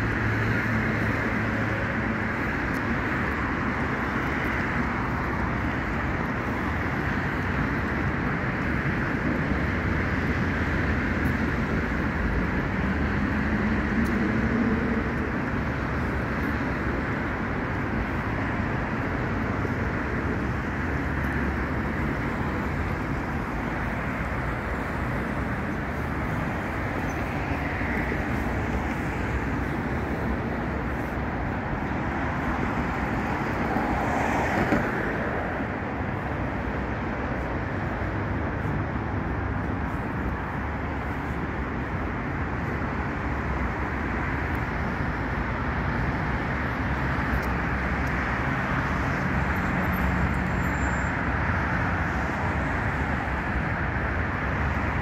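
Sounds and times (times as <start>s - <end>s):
cars running along street: 0.0s - 55.0s.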